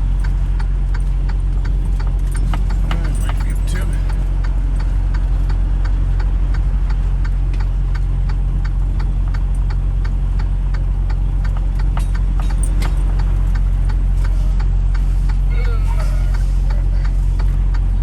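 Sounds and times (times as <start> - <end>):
regular ticking: 0.0 - 18.0
vehicle engine humming: 0.0 - 18.0.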